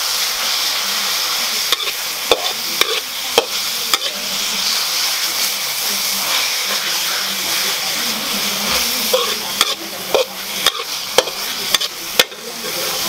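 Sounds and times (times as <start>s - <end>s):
food sizzling in a wok: 0.0s - 13.0s
metal ladle scraping a wok: 1.7s - 13.0s.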